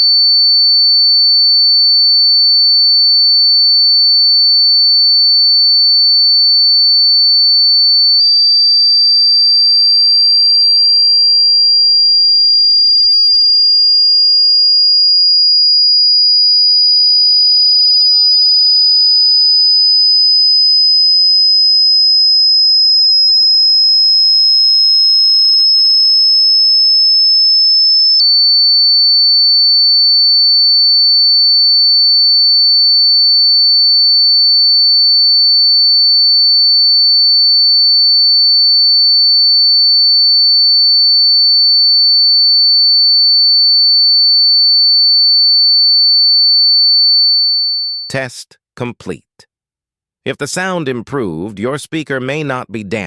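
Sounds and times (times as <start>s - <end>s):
high-pitched sine test tone: 0.0s - 48.3s.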